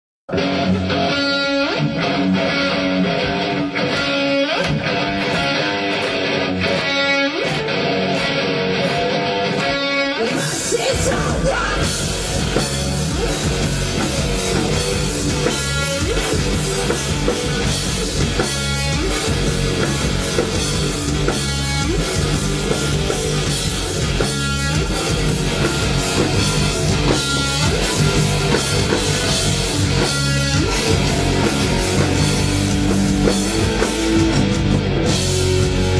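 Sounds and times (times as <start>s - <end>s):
heavy metal music: 0.3s - 35.9s.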